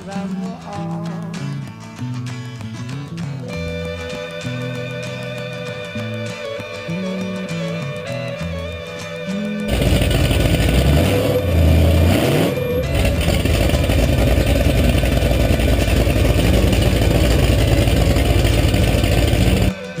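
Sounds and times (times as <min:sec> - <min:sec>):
truck engines revving: 0:03.5 - 0:19.7.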